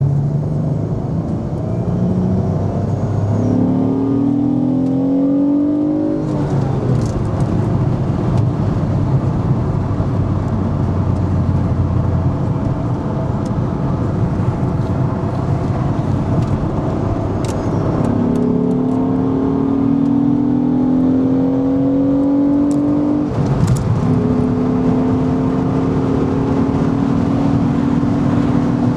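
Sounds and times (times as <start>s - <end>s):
car engine at high revs: 0.0s - 28.9s.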